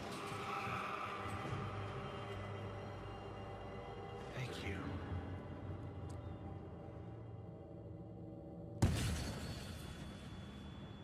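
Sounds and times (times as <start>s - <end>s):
low music drone: 0.0s - 9.1s.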